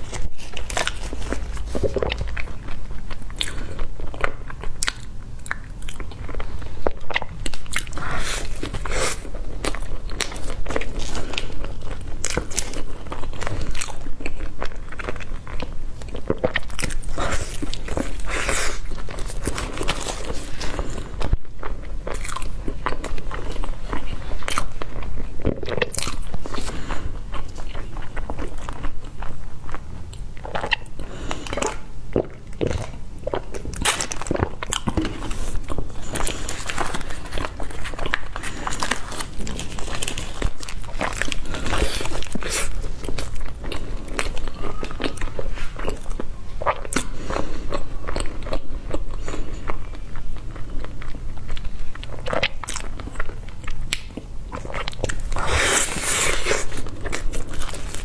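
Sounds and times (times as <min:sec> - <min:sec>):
chewing soft cake: 0:00.0 - 0:58.0.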